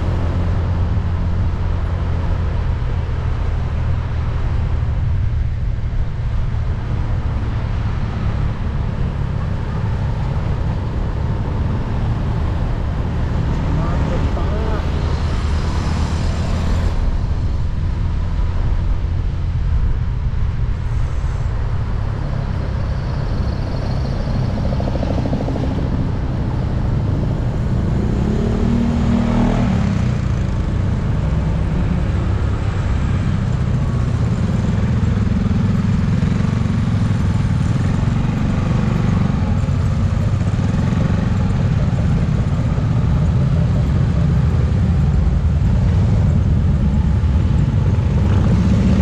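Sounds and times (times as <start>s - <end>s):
traffic hum: 0.0s - 49.0s.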